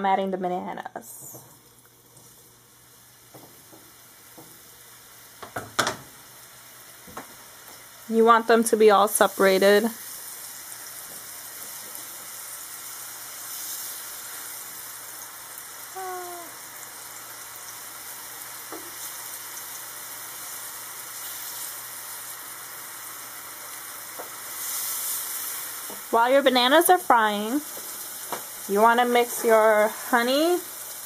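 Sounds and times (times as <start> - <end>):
banana slices sizzling in oil: 0.0 - 31.0.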